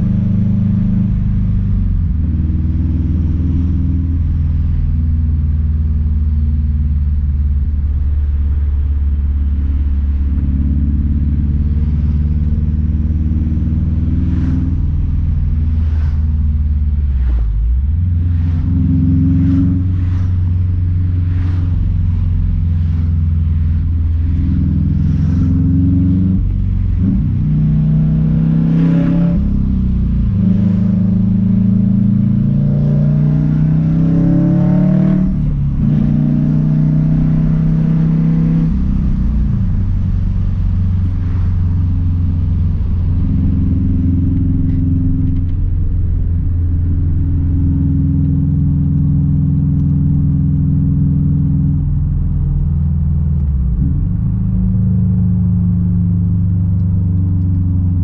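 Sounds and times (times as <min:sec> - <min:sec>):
car engine and exhaust drumming: 0:00.0 - 0:58.0.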